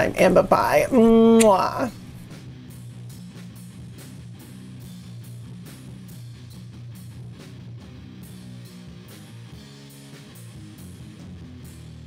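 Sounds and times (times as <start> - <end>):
guitar-led rock music: 0.0 - 12.0.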